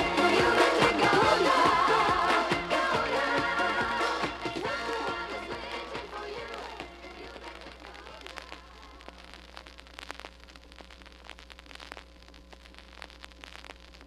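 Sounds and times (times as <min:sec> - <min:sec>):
vinyl crackle and pops: 0:00.0 - 0:14.0.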